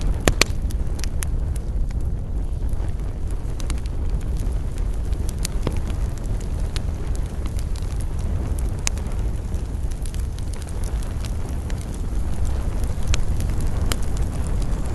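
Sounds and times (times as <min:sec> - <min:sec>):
campfire wood crackling: 0:00.0 - 0:14.9
low fire rumble: 0:00.0 - 0:14.9
sharp fire pop: 0:00.0 - 0:14.9.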